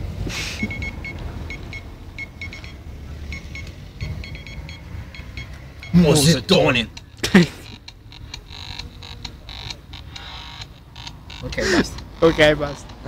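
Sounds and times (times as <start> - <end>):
electronic beeps like morse code: 0.6 - 13.0.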